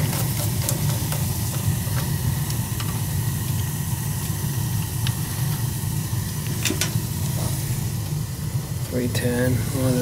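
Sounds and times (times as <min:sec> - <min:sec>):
gas flames rumbling: 0:00.0 - 0:10.0.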